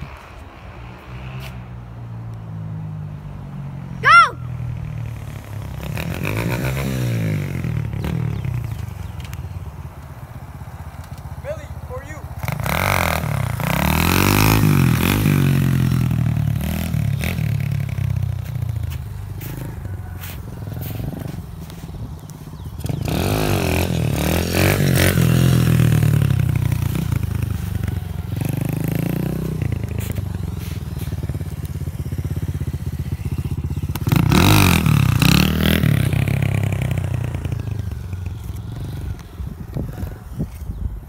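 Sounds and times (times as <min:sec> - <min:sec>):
motorbike engine revving: 0:04.0 - 0:40.7.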